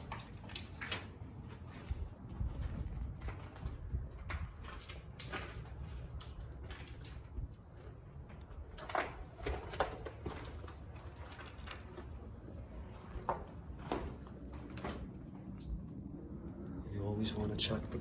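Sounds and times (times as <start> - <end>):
steady low rumble: 0.0 - 8.8, 10.8 - 18.0.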